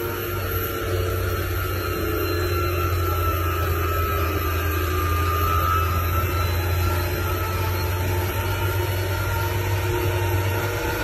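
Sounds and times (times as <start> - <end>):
faint high whine: 0.0 - 11.0
truck diesel engine droning: 0.0 - 11.0.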